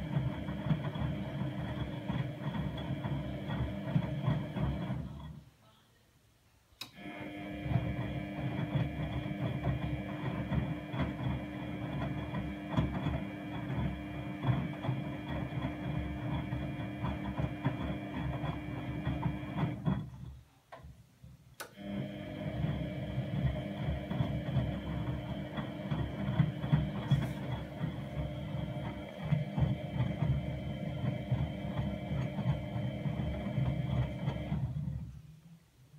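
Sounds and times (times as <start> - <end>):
washing machine motor hum: 0.0 - 5.4, 6.8 - 20.4, 21.6 - 35.3.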